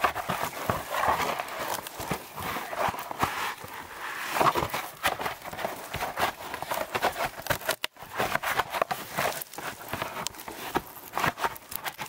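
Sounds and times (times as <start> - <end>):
crunching in dry leaves and twigs: 0.0 - 12.0.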